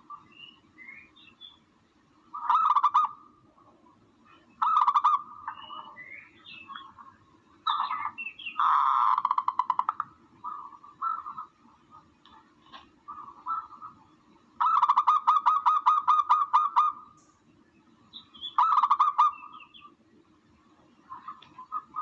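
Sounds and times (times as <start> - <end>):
harsh bird calls: 0.0 - 1.7, 2.3 - 3.3, 4.2 - 17.4, 18.0 - 20.0, 20.9 - 22.0
low steady hum: 0.0 - 22.0.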